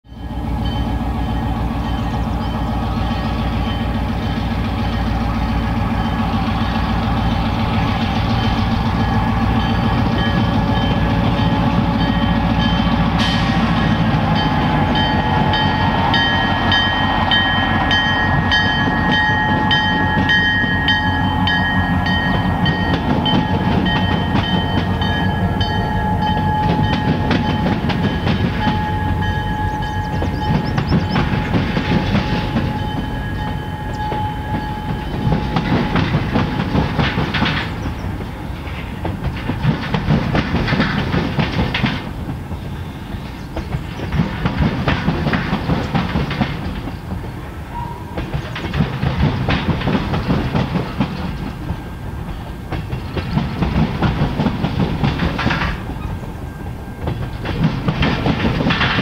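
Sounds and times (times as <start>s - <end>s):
diesel locomotive rumble: 0.0s - 59.0s
train wheels hammering over joints: 0.2s - 59.0s.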